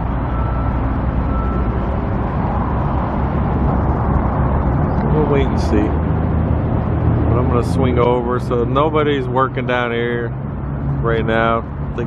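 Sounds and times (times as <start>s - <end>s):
engine hum: 0.0s - 12.0s
traffic rumble: 0.0s - 12.0s.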